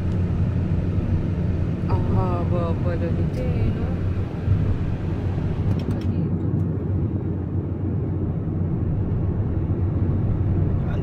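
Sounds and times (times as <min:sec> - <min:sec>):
car engine and tyres rumble: 0:00.0 - 0:11.0.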